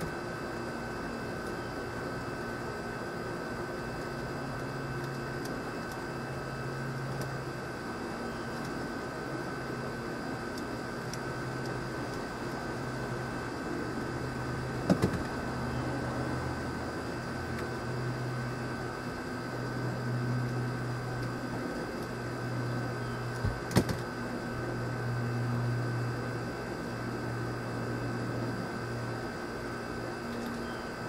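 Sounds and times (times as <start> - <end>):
constant high whine: 0.0 - 31.0
steady mechanical hum: 0.0 - 31.0.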